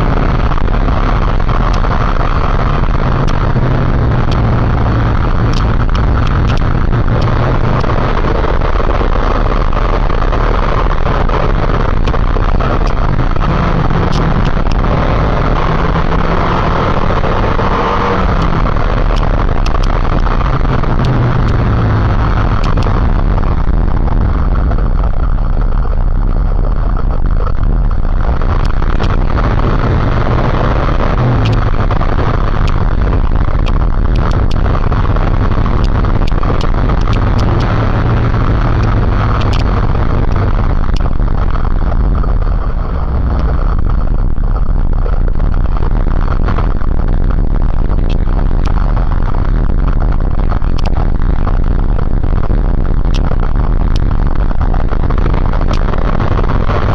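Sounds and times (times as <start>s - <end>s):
motorcycle engine running: 0.0s - 54.8s
wind noise on microphone: 0.0s - 56.9s.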